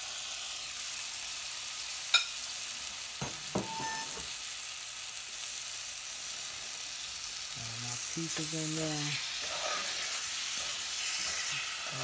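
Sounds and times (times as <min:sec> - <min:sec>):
fruit sizzling in butter: 0:00.0 - 0:12.0.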